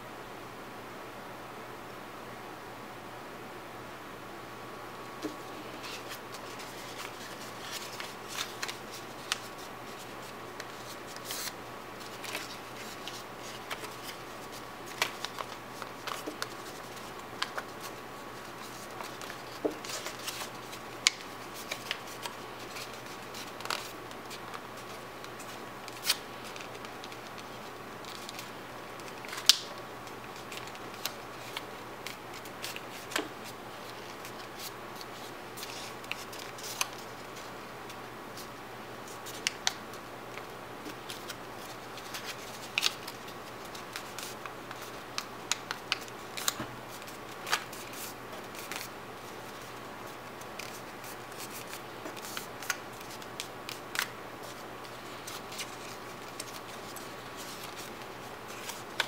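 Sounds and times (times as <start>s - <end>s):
faint hiss and hum: 0.0s - 59.0s
paper crinkling and creasing: 5.2s - 59.0s.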